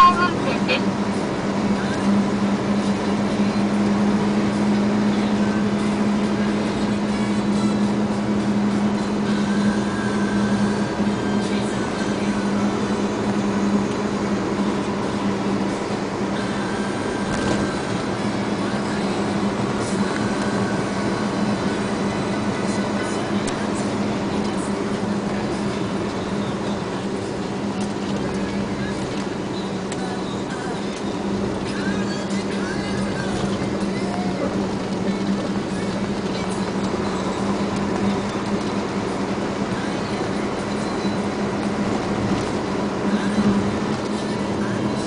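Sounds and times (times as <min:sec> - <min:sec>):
constant low hum: 0:00.0 - 0:45.0
tyre and road noise: 0:00.0 - 0:45.0
vehicle cabin engine drone: 0:00.0 - 0:45.0.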